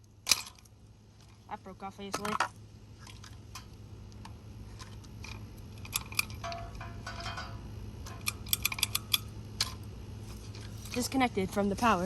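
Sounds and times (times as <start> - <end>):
fan parts clicking and rattling: 0.0 - 12.0
low hum: 0.0 - 12.0.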